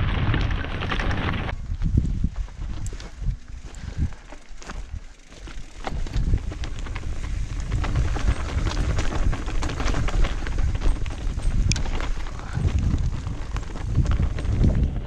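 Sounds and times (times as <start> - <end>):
wind buffeting microphone: 0.0 - 15.0
tyres crunching over stones and leaves: 2.4 - 14.8
bike rattling clicks: 2.7 - 15.0.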